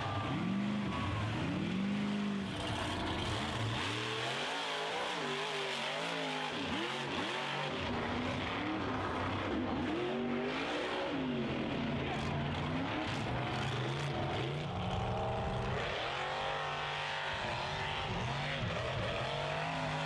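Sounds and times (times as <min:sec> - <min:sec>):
truck engines revving hard: 0:00.0 - 0:20.0.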